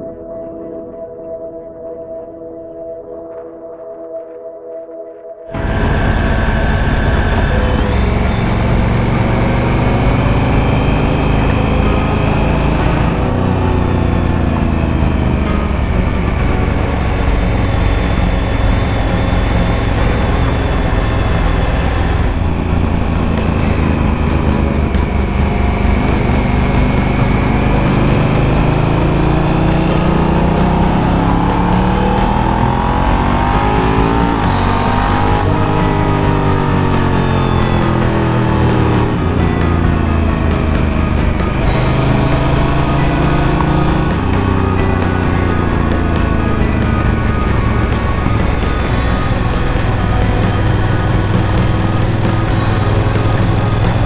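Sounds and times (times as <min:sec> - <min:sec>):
motorcycle engine revving: 0:05.5 - 0:54.0
wind and road rush: 0:05.5 - 0:54.0.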